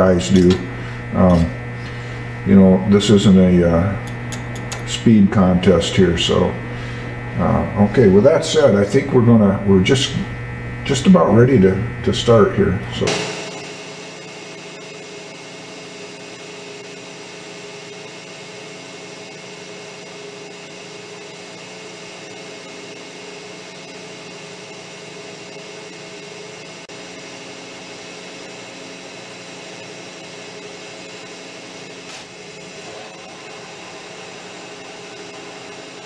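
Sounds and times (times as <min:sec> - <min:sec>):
metal lathe humming: 0:00.0 - 0:36.0.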